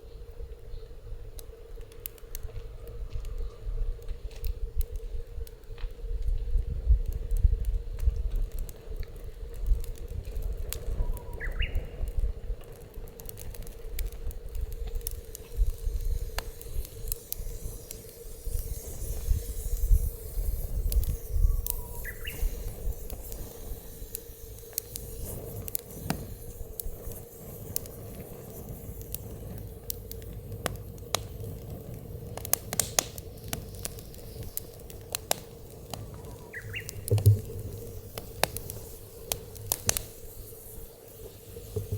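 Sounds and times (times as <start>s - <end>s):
wind rumbling on microphone: 0.0s - 41.9s
wood fire crackling and popping: 0.5s - 41.9s.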